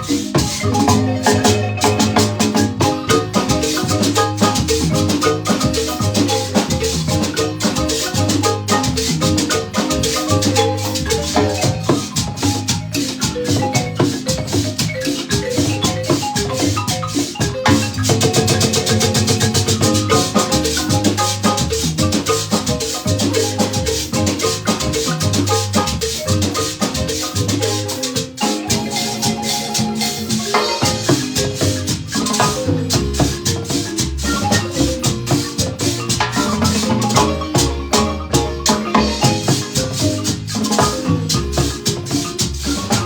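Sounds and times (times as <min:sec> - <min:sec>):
marimba band playing: 0:00.0 - 0:43.0.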